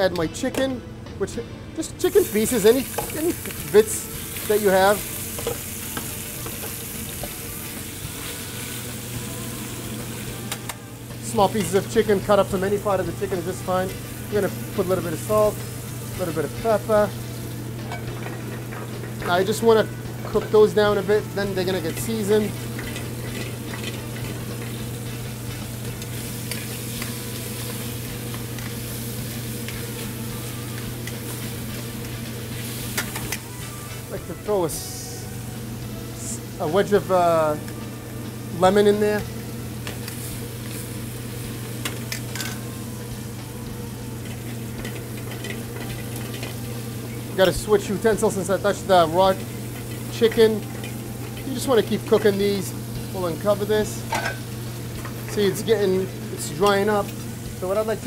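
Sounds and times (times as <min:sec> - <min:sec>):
chicken sizzling in oil: 0:02.0 - 0:58.0.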